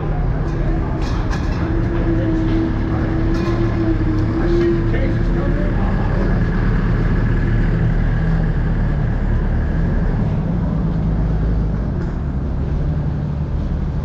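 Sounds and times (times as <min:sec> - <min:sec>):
machine engine rumbling: 0:00.0 - 0:14.0.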